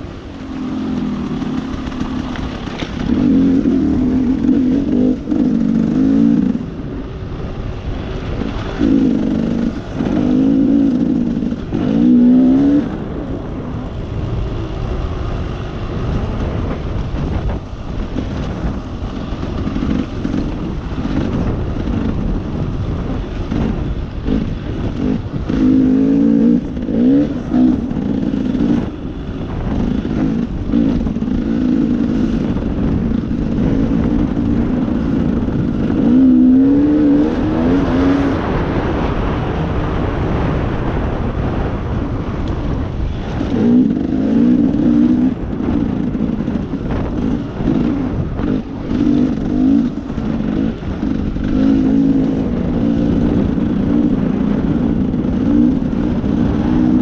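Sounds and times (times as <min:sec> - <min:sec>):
vehicle engine revving: 0:00.0 - 0:57.0
wind and road noise: 0:00.0 - 0:57.0.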